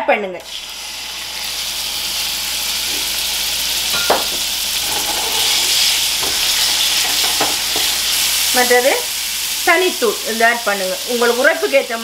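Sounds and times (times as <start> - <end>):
chicken sizzling in frying pan: 0.5 - 12.0.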